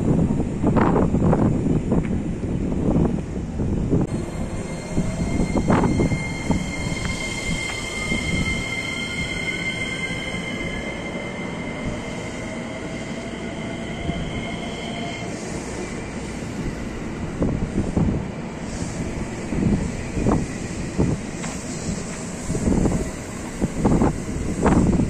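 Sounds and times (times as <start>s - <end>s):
low train rumble: 0.0s - 25.0s
electric train motors whining: 4.1s - 25.0s.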